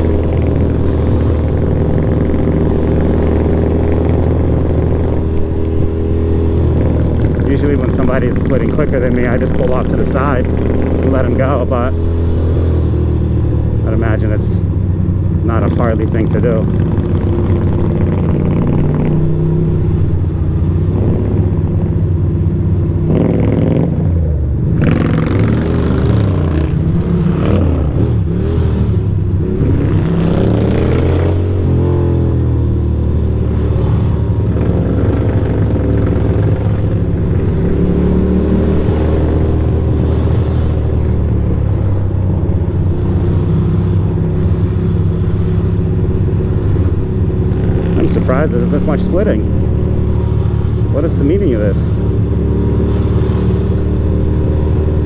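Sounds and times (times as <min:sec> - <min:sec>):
motorcycle engine running: 0:00.0 - 0:55.0
wind and tyre noise: 0:00.0 - 0:55.0.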